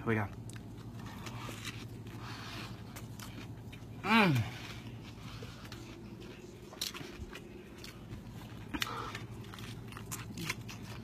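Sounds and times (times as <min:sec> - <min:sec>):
chewing a soft wrap: 0:00.1 - 0:11.0.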